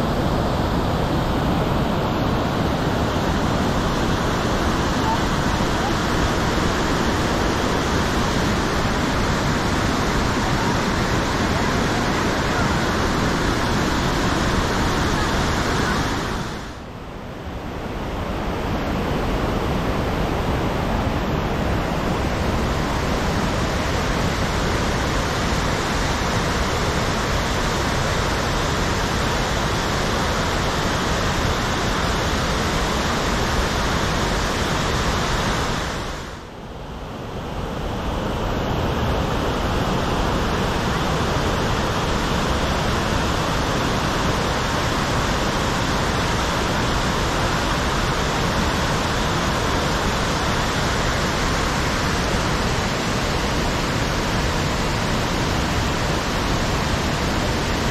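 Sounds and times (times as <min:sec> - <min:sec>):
waterfall rushing: 0:00.0 - 0:16.9, 0:18.0 - 0:36.5, 0:37.8 - 0:57.9.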